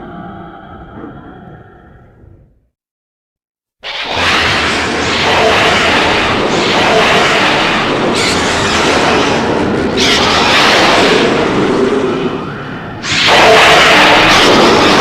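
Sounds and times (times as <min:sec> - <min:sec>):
harsh noisy monster rumble: 0:00.0 - 0:02.6, 0:03.8 - 0:15.0.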